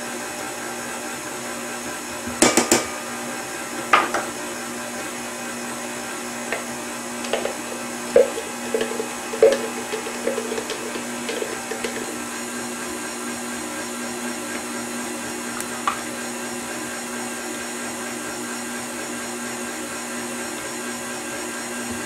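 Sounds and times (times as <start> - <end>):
stand mixer running: 0.0 - 22.0.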